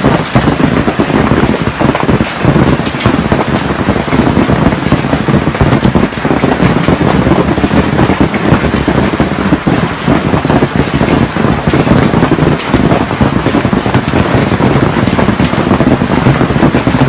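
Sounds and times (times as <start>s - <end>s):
hailstones pelting down: 0.0s - 17.0s.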